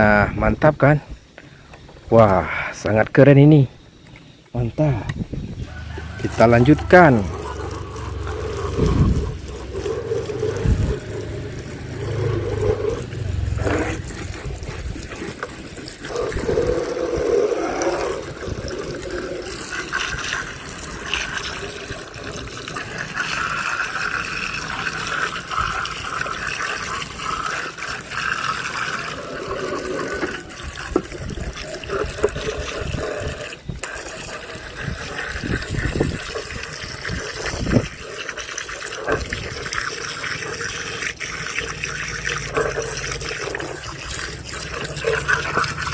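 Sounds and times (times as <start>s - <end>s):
running water splashing: 5.6s - 45.9s.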